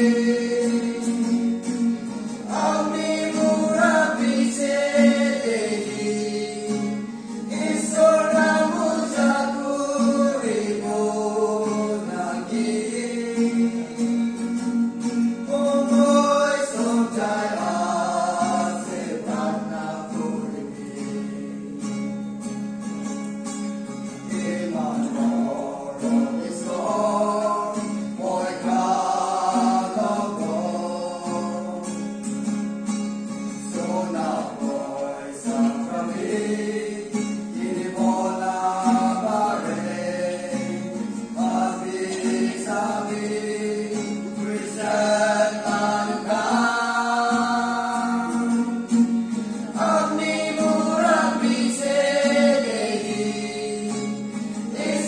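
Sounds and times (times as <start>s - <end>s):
people singing gospel song: 0.0s - 22.2s, 24.0s - 32.5s, 33.4s - 55.0s
guitar accompaniment: 0.0s - 55.0s.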